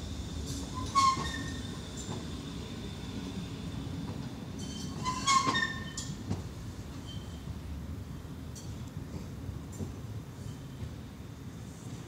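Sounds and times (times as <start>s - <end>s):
tram rolling past rumbling: 0.0s - 12.0s.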